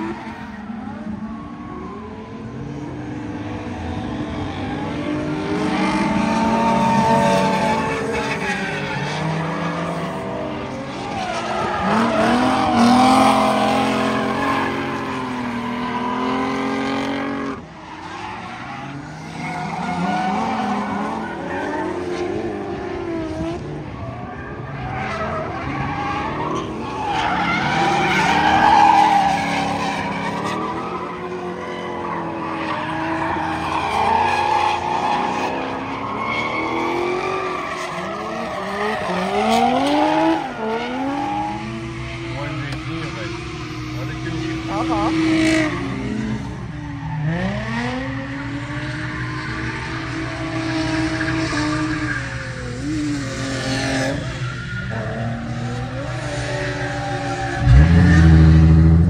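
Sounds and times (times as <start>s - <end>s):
car engines revving: 0.0s - 59.0s
tyres screeching on asphalt: 0.0s - 59.0s.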